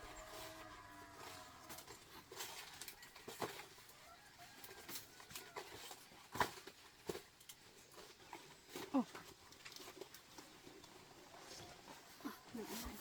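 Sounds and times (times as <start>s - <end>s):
faint scattered clicks and knocks: 1.6s - 12.1s.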